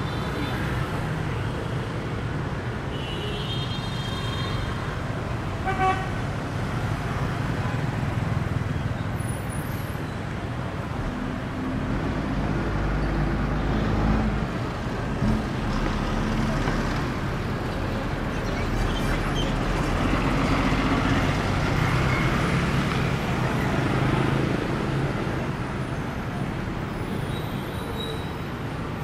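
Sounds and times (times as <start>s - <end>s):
scooters and cars passing: 3.7s - 29.0s.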